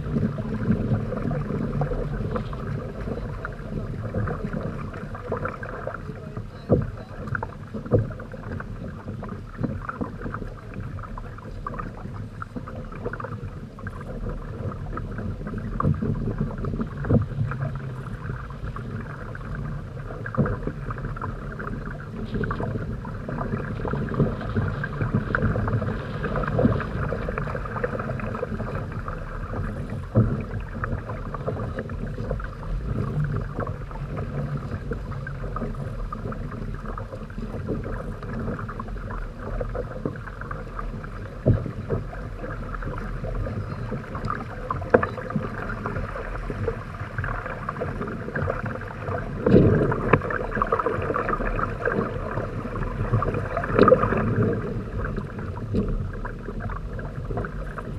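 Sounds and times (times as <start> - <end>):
water splashing along hulls: 0.0 - 57.9.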